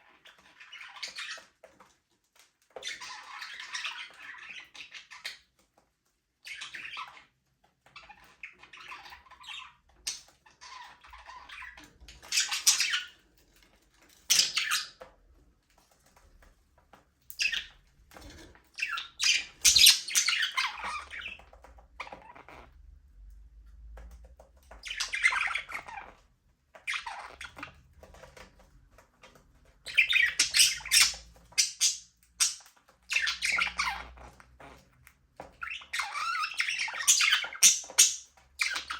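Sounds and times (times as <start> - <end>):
budgerigars chirping and chattering: 0.0 - 1.9, 2.7 - 5.6, 6.4 - 13.2, 14.0 - 15.1, 17.3 - 22.7, 24.6 - 38.9.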